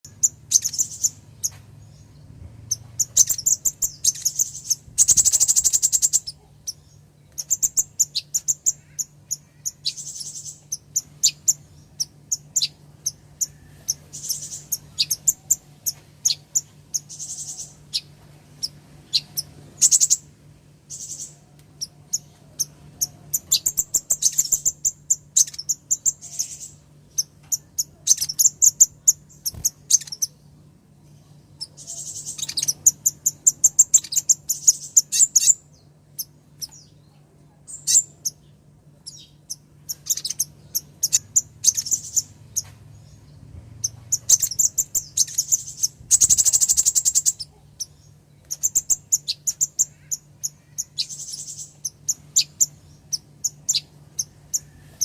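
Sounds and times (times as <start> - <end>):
bird chips and trills: 0.0 - 20.3, 20.9 - 30.5, 31.1 - 55.0
faint low hum: 0.0 - 55.0.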